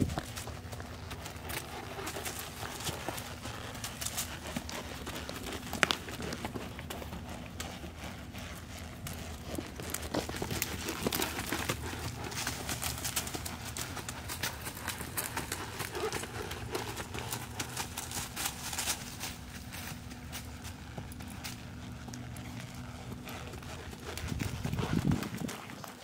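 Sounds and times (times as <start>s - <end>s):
horse hoofbeats on dirt and leaves: 0.0s - 26.0s.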